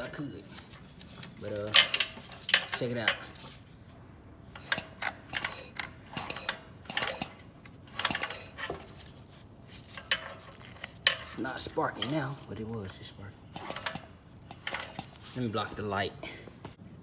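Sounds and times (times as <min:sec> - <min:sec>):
generator recoil starter pulls: 0:00.0 - 0:03.6, 0:04.5 - 0:16.0.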